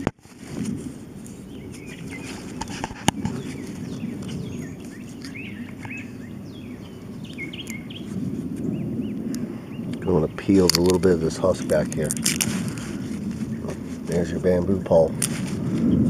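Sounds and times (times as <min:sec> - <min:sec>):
steady low noise: 0:00.0 - 0:16.0
small birds chirping: 0:01.0 - 0:16.0.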